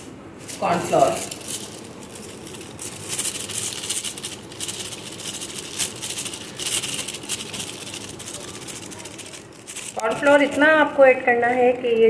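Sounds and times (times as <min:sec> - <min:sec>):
plastic bag crinkling: 0:00.3 - 0:12.0.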